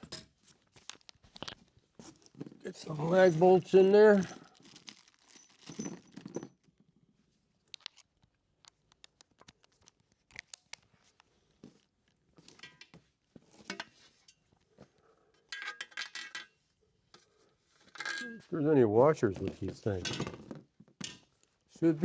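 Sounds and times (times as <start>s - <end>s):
hardware rustling and clicking: 0.0s - 6.7s, 7.7s - 18.5s, 19.2s - 21.4s.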